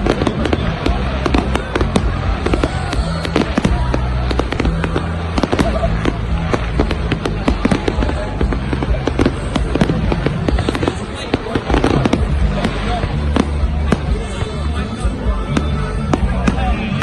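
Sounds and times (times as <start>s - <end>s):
fireworks bangs and crackles: 0.0s - 17.0s
loud music with bass: 0.0s - 17.0s.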